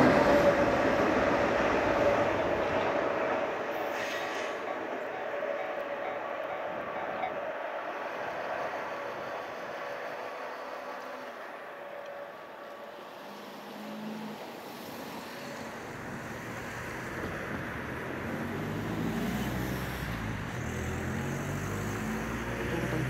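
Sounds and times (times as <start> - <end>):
electric locomotive pulling away: 0.0 - 23.0.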